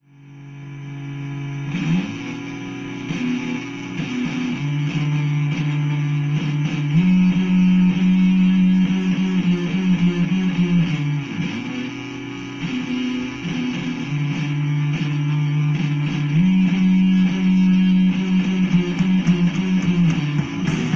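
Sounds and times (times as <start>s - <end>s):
guitar music through small speakers: 0.4s - 20.9s.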